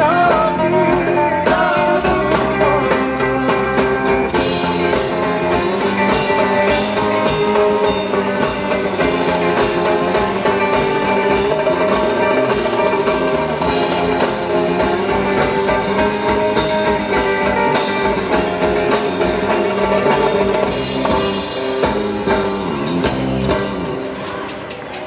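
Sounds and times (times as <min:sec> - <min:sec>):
drum kit: 0:00.0 - 0:25.0
guitar: 0:00.0 - 0:25.0
percussion: 0:00.0 - 0:25.0.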